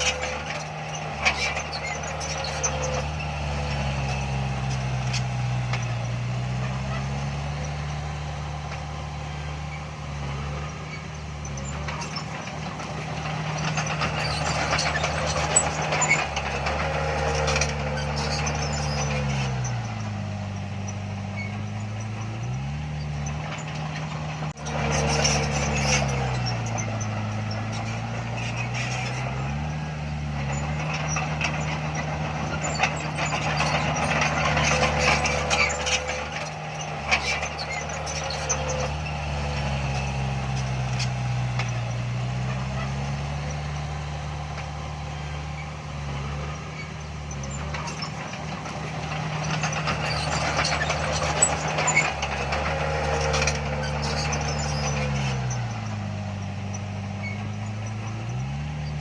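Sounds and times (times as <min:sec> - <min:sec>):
bulldozer diesel engine under load: 0:00.0 - 0:59.0
metal clanks: 0:00.0 - 0:59.0.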